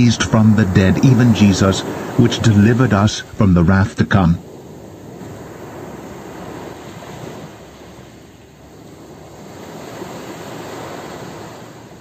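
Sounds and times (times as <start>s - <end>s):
ocean waves washing on shore: 0.0s - 12.0s.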